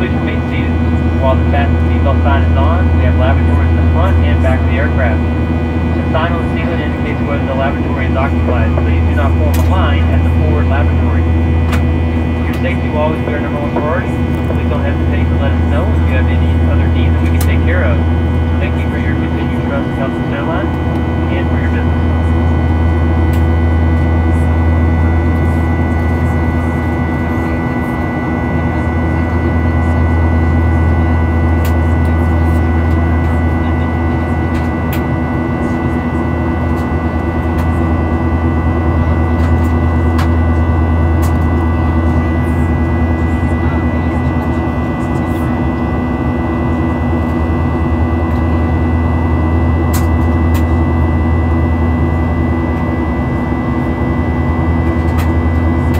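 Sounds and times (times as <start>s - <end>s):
airplane cabin engine drone: 0.0s - 55.9s.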